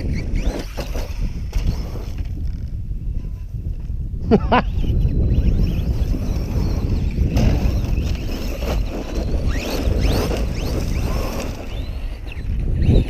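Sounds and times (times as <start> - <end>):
electric motor whining: 0.0 - 3.5, 4.7 - 13.0
wind buffeting microphone: 0.0 - 13.0.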